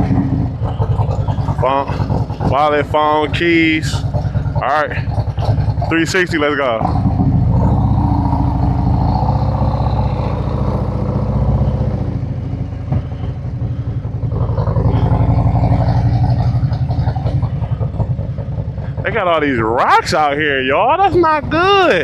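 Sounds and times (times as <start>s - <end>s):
motorcycle engine pulling away: 0.0s - 19.9s.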